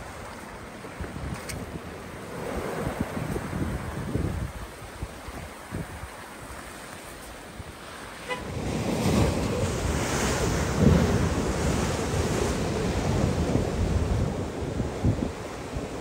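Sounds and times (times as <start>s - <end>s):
wind buffeting microphone: 0.0s - 6.6s, 7.5s - 16.0s
waves crashing against wall: 0.0s - 16.0s.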